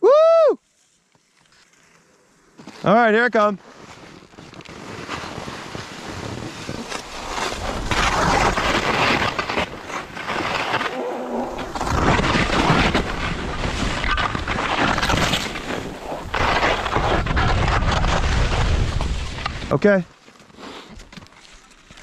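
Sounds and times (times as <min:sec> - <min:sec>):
skis scraping over snow: 0:00.7 - 0:22.0.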